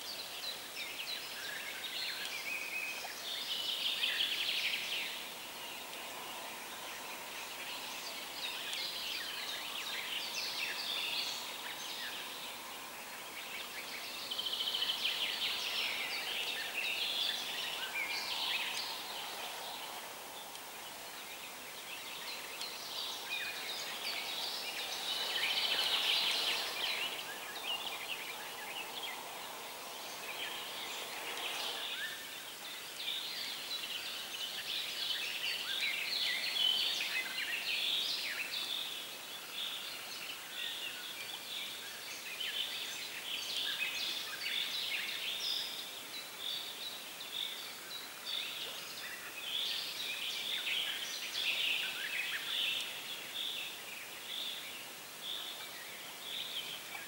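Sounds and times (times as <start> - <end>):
birds chirping and trilling: 0.0 - 57.0
soft steady hiss: 0.0 - 57.0.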